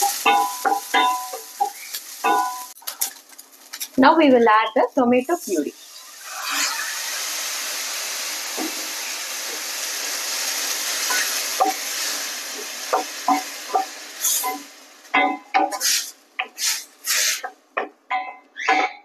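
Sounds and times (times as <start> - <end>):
puree sizzling in hot pan: 0.0 - 17.9.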